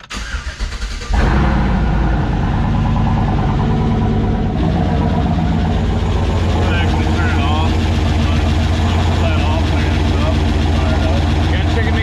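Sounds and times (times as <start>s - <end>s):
truck engine cranking and running: 0.0s - 12.0s.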